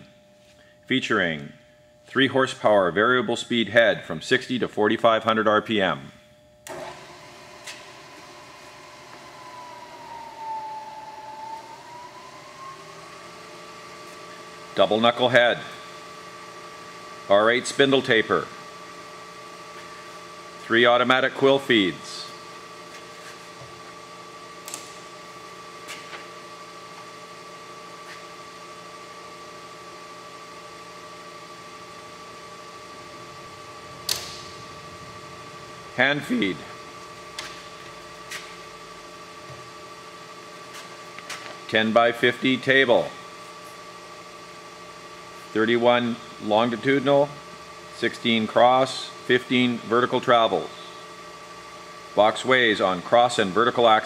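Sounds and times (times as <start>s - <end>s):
milling machine whine: 6.2s - 54.0s.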